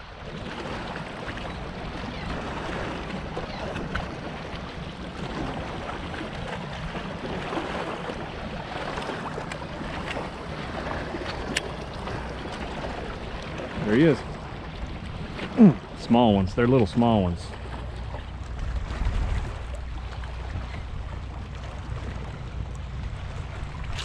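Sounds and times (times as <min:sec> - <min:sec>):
water noise: 0:00.0 - 0:24.0
wind: 0:00.0 - 0:24.0.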